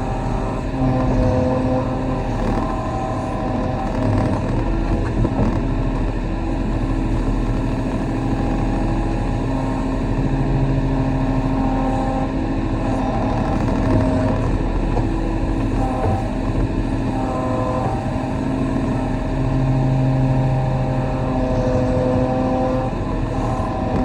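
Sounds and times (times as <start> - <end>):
mini excavator diesel engine running: 0.0 - 24.0.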